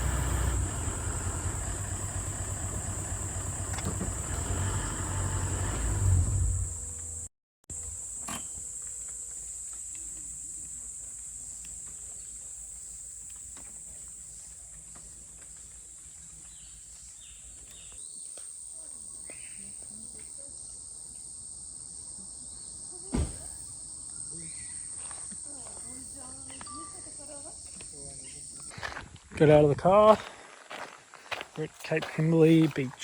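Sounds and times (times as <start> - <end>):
insects chirring: 0.0 - 6.8, 7.7 - 29.0.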